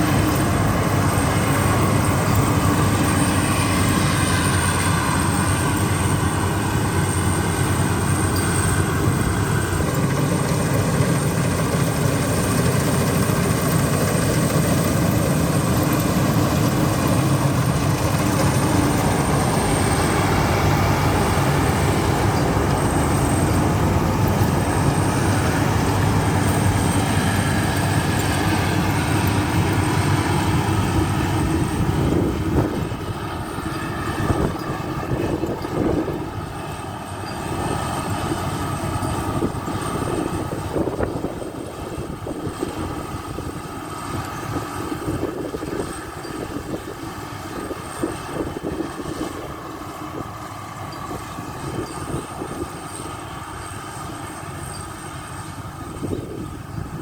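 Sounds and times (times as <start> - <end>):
combine harvester running: 0.0 - 57.0
high-pitched machine whine: 0.0 - 57.0.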